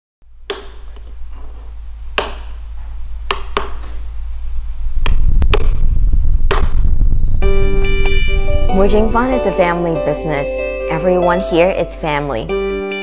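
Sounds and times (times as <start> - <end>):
low steady drone: 0.3 - 12.8.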